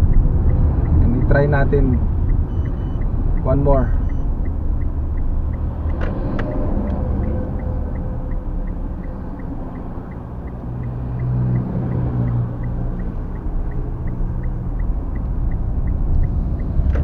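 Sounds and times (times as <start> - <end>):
car tyre and engine rumble: 0.0 - 17.0
turn signal ticking: 0.0 - 17.0.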